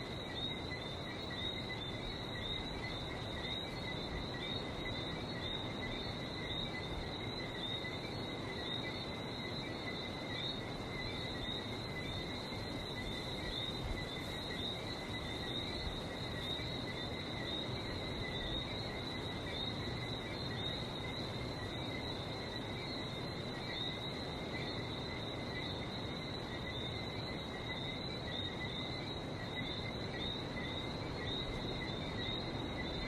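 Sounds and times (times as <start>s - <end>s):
frogs chirping and whistling: 0.0s - 33.0s.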